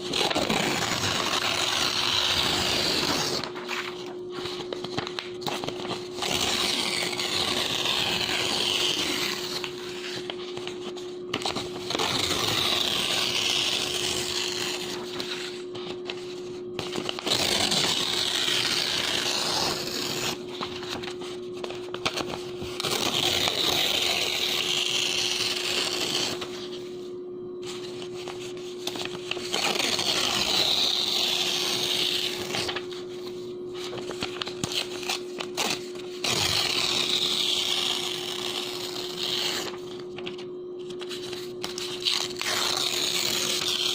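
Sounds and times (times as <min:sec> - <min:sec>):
paper tearing slowly: 0:00.0 - 0:26.9, 0:27.7 - 0:43.9.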